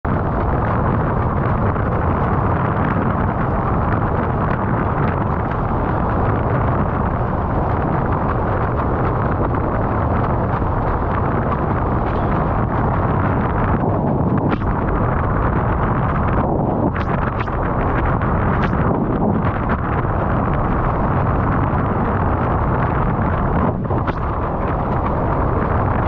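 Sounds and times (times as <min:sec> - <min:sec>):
wind rumble on microphone: 0:00.0 - 0:26.0
water rushing under board: 0:00.1 - 0:26.0.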